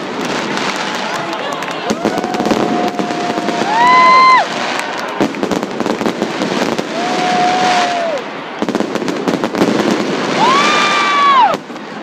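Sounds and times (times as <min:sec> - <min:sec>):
fireworks crackling and popping: 0:00.0 - 0:12.0
firework whistling: 0:01.9 - 0:12.0.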